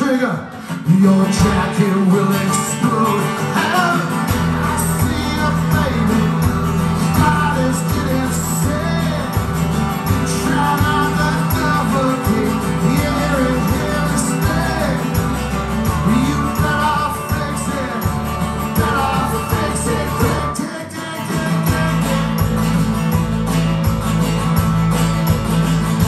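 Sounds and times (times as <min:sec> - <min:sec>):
man singing: 0:00.0 - 0:22.9
acoustic guitar strumming: 0:00.0 - 0:26.0.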